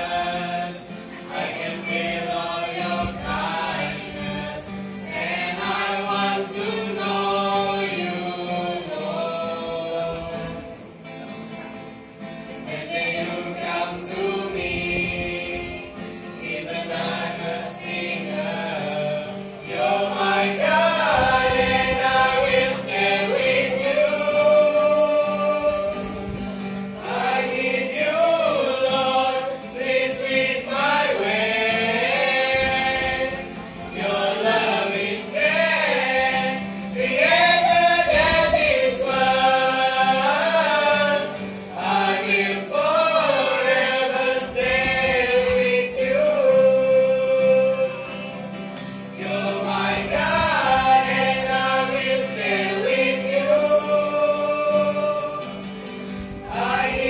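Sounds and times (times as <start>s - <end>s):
group singing worship song: 0.0s - 11.2s, 12.2s - 57.0s
acoustic guitar: 0.0s - 57.0s.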